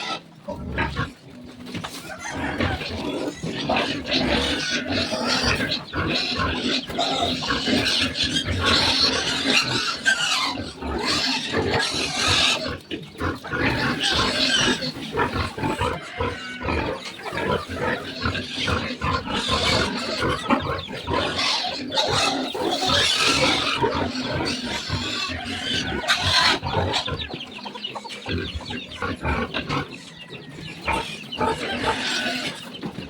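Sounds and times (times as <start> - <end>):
pigs grunting and squealing: 0.0 - 33.0.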